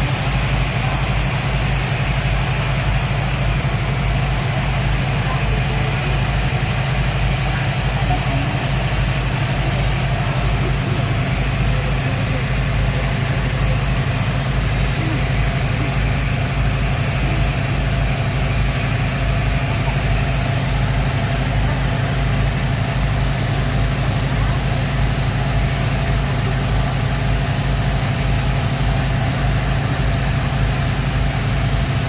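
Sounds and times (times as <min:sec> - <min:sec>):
speed boat engines droning: 0:00.0 - 0:32.0.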